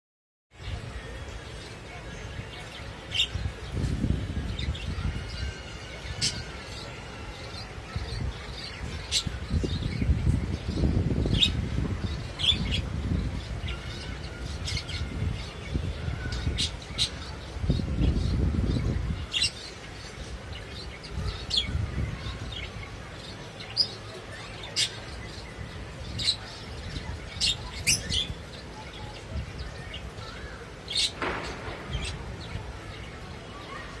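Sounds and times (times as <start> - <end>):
birds chirping high-pitched: 0.5 - 34.0.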